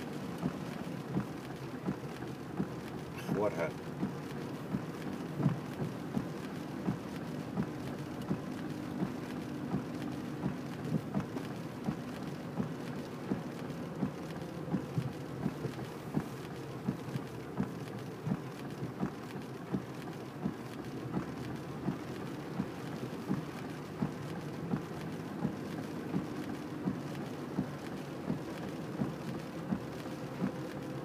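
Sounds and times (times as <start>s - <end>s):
car driving on wet street: 0.0s - 31.0s
rain on car: 0.0s - 31.0s.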